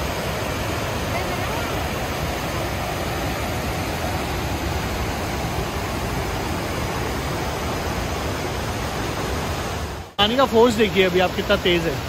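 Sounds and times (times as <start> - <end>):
river rushing over boulders: 0.0 - 12.0.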